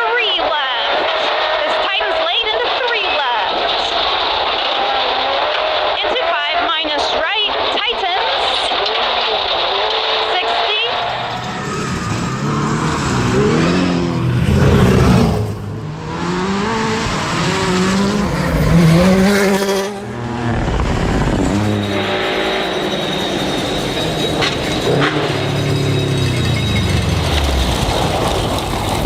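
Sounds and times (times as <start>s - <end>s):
rally car engine revving: 3.4s - 29.0s.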